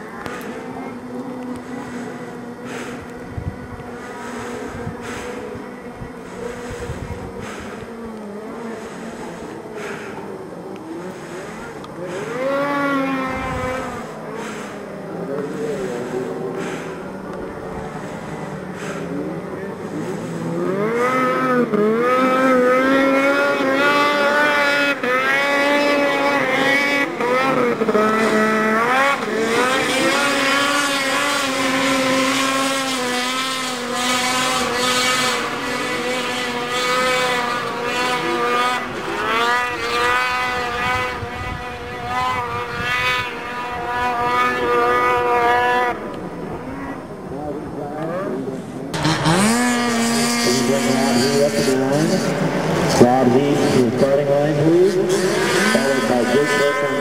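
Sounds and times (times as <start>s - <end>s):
snowmobile engine at high revs: 0.0s - 57.0s.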